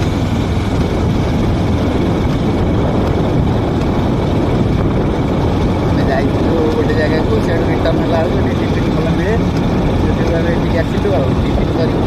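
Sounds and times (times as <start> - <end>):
motorbike engine: 0.0 - 12.0
wind buffeting microphone: 0.0 - 12.0.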